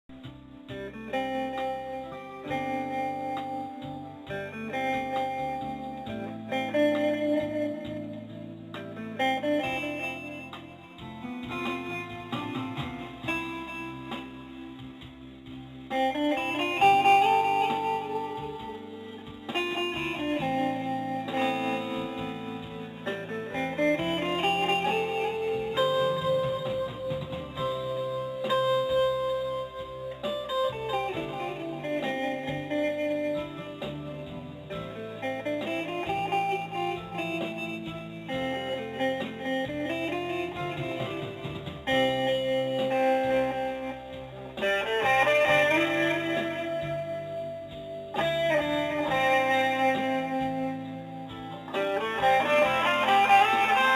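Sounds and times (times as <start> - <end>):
instrumental guitar music: 0.1 - 53.9.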